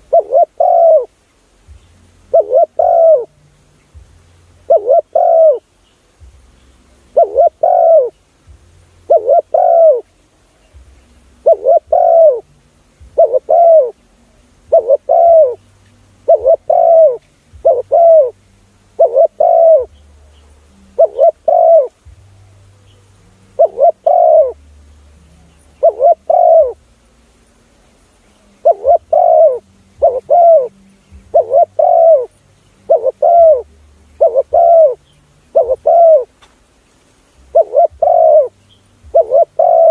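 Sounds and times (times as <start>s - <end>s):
dove cooing: 0.0s - 1.2s, 2.2s - 3.4s, 4.6s - 5.7s, 7.0s - 8.2s, 9.1s - 10.8s, 11.4s - 24.6s, 25.2s - 26.9s, 28.3s - 36.5s, 37.4s - 39.9s.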